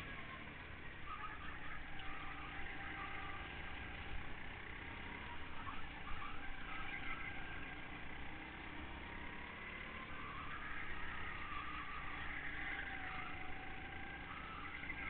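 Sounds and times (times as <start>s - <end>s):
go-kart engine revving: 0.0s - 15.0s
other kart engines: 0.0s - 15.0s.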